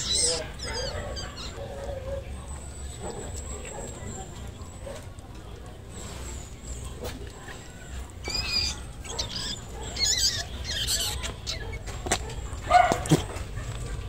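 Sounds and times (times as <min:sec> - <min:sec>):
baby rabbits squealing: 0:00.0 - 0:05.3, 0:05.9 - 0:14.0.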